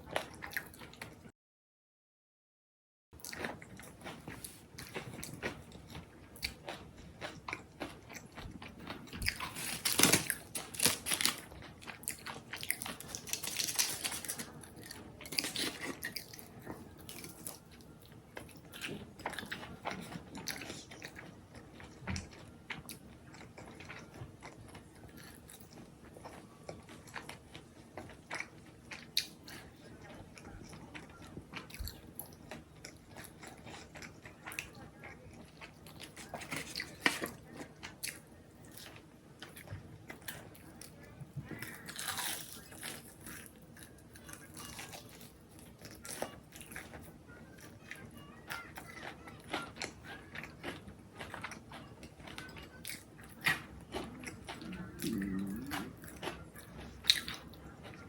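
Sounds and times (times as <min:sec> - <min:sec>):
person chewing crunchy food: 0:00.0 - 0:01.3, 0:03.2 - 0:58.0.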